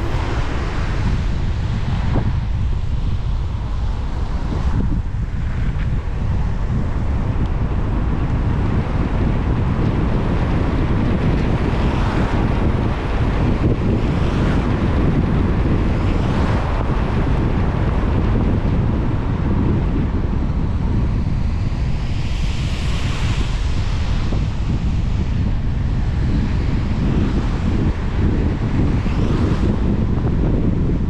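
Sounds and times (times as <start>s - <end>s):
car road rumble: 0.0s - 31.0s.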